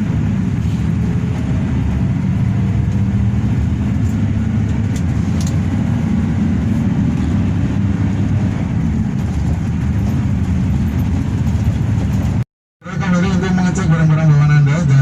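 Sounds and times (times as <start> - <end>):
coach engine drone: 0.0 - 15.0
road and tyre noise: 0.0 - 15.0.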